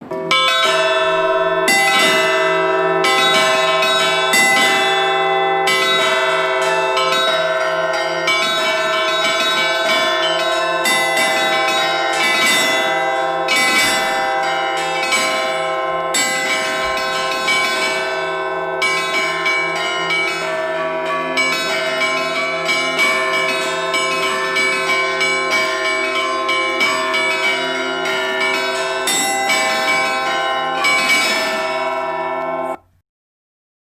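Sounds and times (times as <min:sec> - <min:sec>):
church bells ringing a peal: 0:00.0 - 0:32.8.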